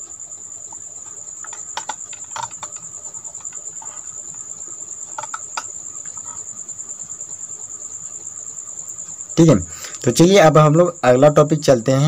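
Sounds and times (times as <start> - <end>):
insect trill: 0.0 - 12.0.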